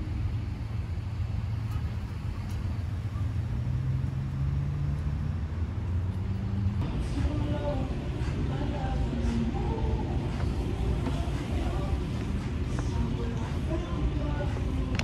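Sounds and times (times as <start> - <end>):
vehicle engine and road drone: 0.0 - 15.0.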